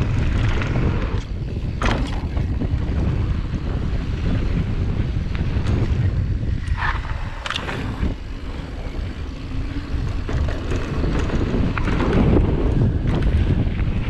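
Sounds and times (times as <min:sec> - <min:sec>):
bike clicks and rattles: 0:00.0 - 0:14.0
tyres rumbling on dirt: 0:00.0 - 0:14.0
wind buffeting microphone: 0:00.0 - 0:14.0.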